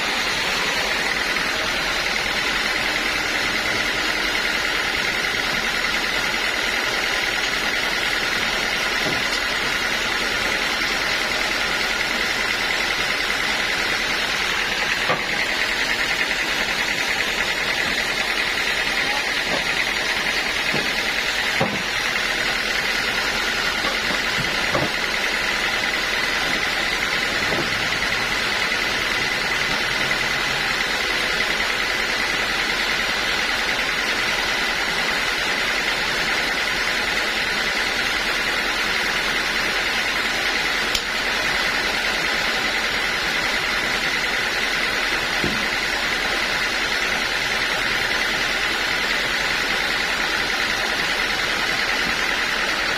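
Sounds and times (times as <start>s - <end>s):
sawmill machinery whining: 0.0s - 52.9s.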